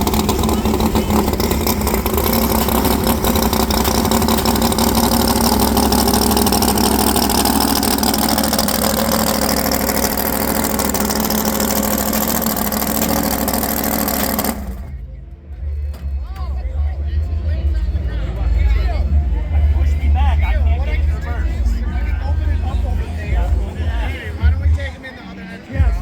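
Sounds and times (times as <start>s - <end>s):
car engine idling loudly: 0.0s - 24.8s.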